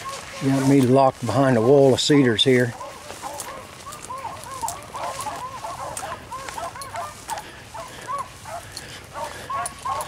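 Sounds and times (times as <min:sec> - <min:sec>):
beagles baying: 0:00.0 - 0:10.0
branches crackling: 0:00.0 - 0:10.0.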